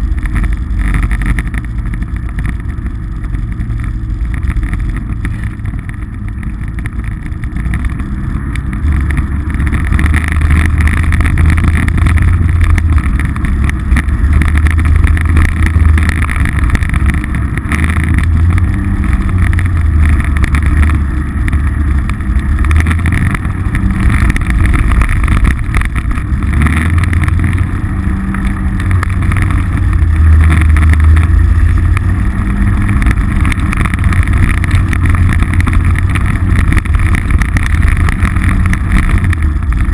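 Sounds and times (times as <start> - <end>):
engine drone: 0.0 - 39.9.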